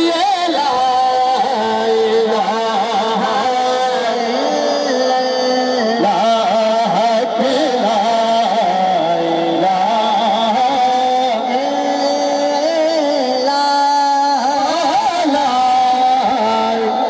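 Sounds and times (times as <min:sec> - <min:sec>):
devotional instrumental melody: 0:00.0 - 0:17.0.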